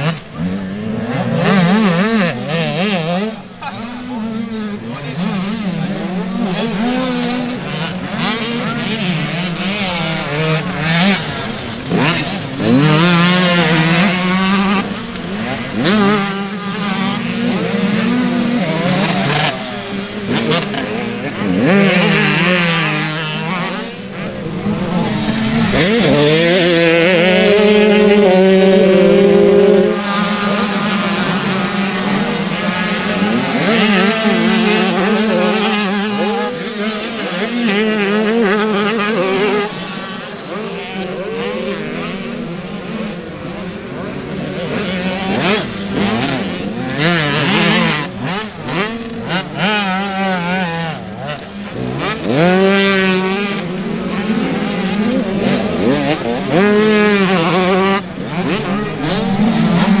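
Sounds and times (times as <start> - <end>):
motocross bikes revving: 0.0 - 60.0.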